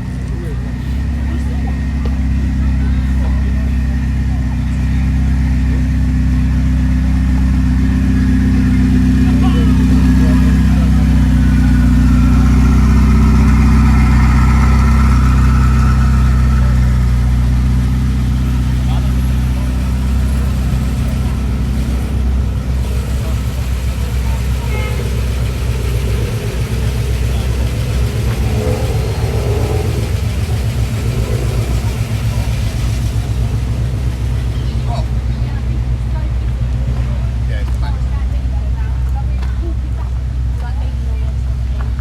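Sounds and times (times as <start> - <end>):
car engine idling: 0.0 - 42.0
faint voices: 0.0 - 42.0.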